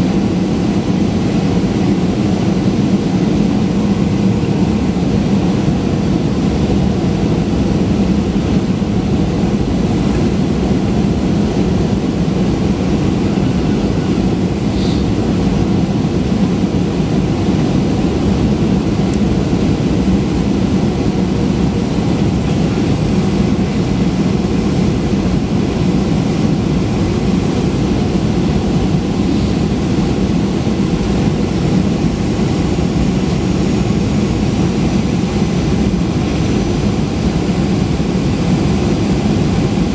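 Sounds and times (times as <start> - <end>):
jet engine hum: 0.0 - 39.9.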